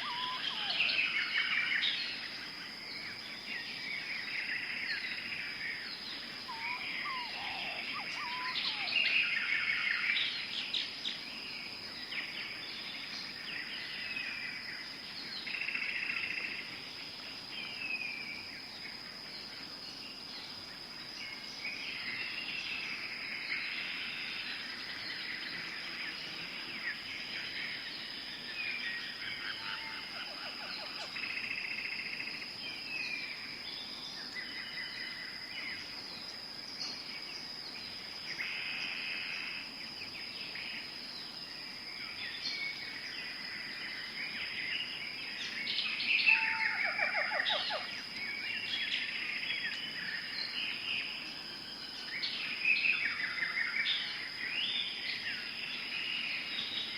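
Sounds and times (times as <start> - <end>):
birds chirping and trilling: 0.0 - 16.7, 19.2 - 56.9.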